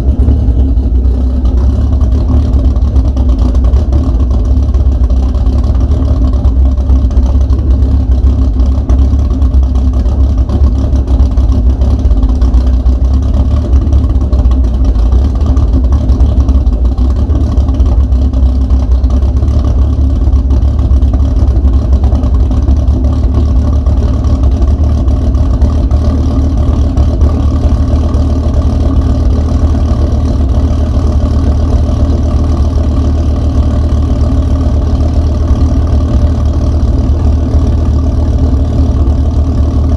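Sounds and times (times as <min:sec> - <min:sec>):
engine idling loudly: 0:00.0 - 0:39.9.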